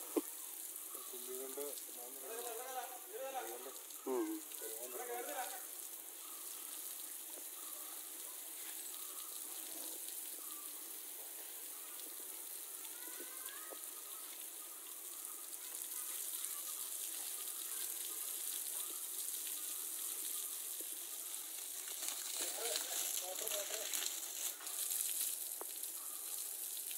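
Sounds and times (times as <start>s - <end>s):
water spraying on hide: 0.0s - 26.9s.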